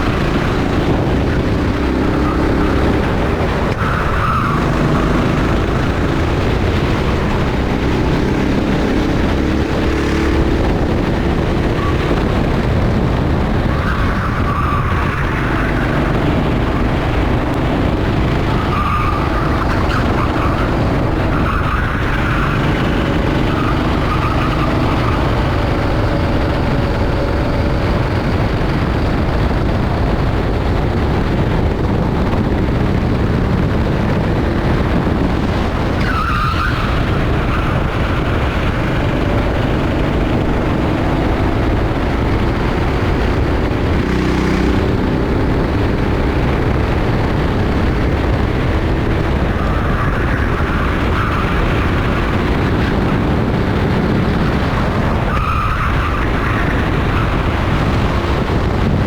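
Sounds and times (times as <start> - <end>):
heavy wind noise: 0.0 - 59.0
kart engine running hard: 0.0 - 59.0
tires squealing: 0.0 - 59.0.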